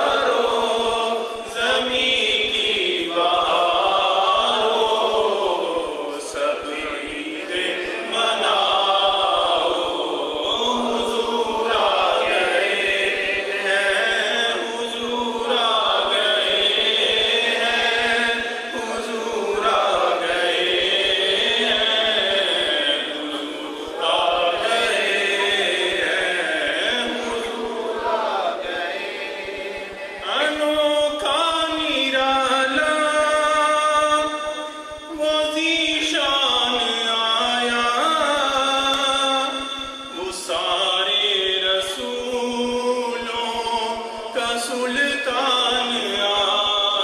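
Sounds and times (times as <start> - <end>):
man singing unaccompanied: 0.0 - 47.0.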